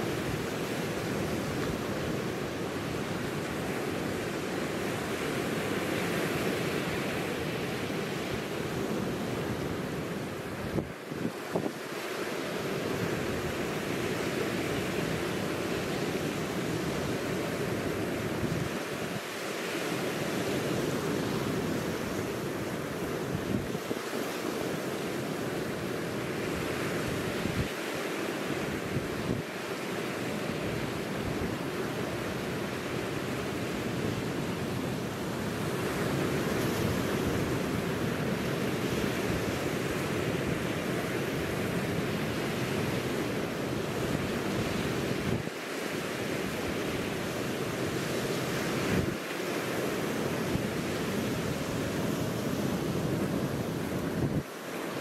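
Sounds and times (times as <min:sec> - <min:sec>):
waves breaking on rocky shore: 0:00.0 - 0:55.0.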